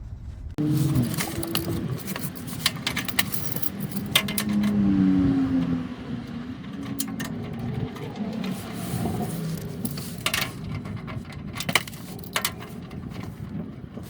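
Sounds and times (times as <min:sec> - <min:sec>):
low wavering hum: 0:00.0 - 0:13.9
socket wrench and bolts clinking: 0:00.7 - 0:13.6.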